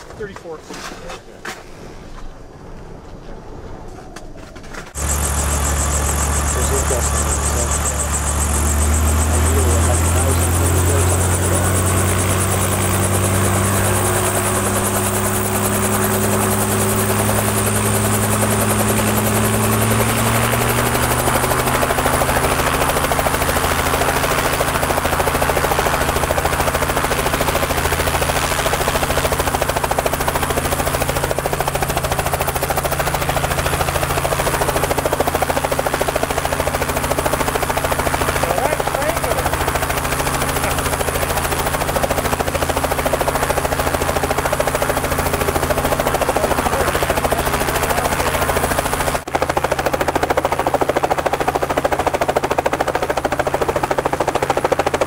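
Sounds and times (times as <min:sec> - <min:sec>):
helicopter engine and rotor: 0:04.6 - 0:55.0.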